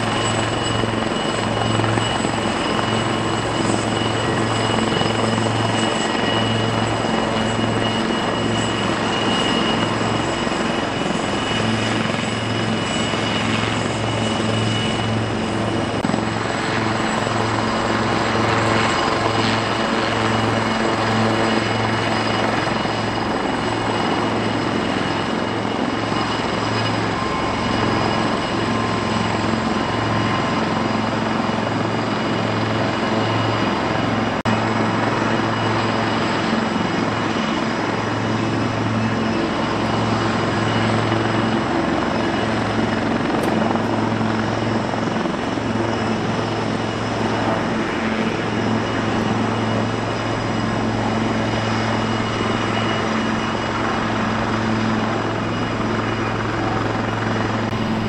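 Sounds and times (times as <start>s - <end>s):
helicopter rotors pulsing: 0.0s - 58.0s
helicopter turbine whine: 0.0s - 58.0s.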